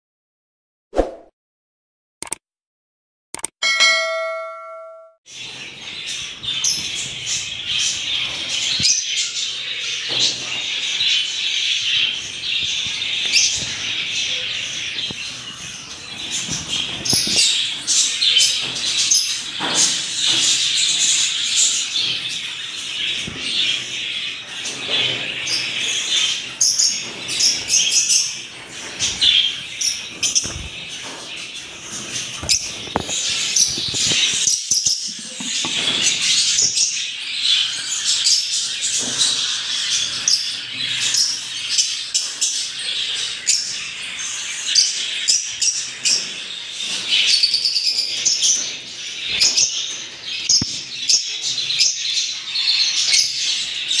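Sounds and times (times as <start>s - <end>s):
lovebirds chirping and chattering: 5.3s - 54.0s.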